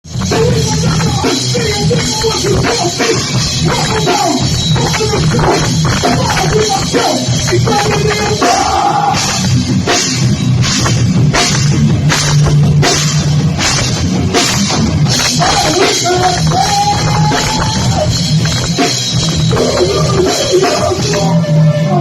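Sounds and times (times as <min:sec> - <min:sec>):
band playing rock music: 0:00.0 - 0:22.0.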